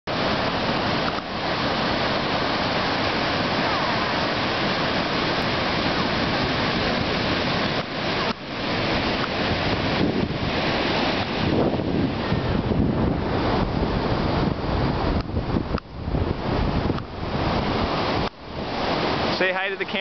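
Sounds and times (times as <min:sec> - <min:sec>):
ocean surf breaking on beach: 0:00.1 - 0:20.0.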